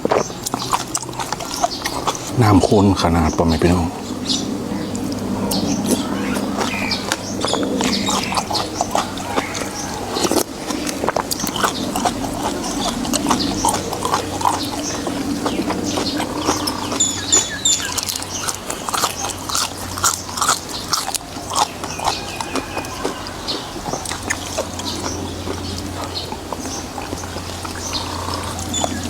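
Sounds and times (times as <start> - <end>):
person chewing and smacking noodles: 0.0 - 29.0.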